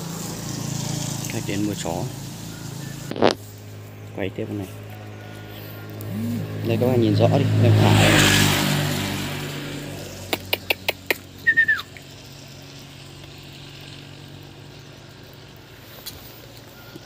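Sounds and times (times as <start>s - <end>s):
passing vehicle hum: 0.0s - 17.0s.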